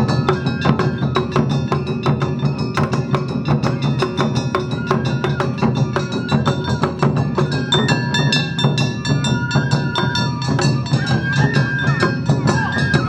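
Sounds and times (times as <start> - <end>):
bamboo flute high notes: 0.0 - 13.0
taiko drums: 0.0 - 13.0.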